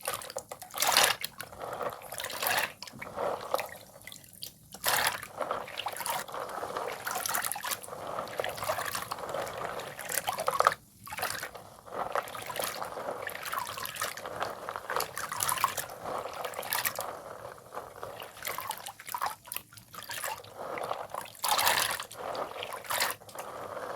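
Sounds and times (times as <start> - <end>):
wet chalk crackling: 0.0 - 23.9.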